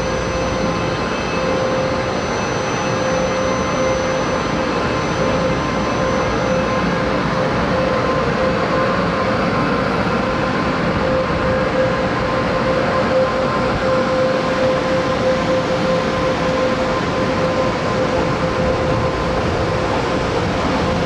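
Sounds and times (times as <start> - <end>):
constant hum: 0.0 - 21.0.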